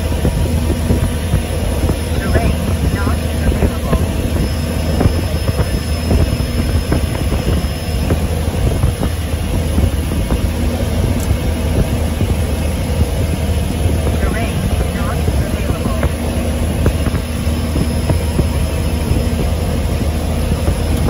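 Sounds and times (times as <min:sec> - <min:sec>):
turboprop engine droning: 0:00.0 - 0:21.0.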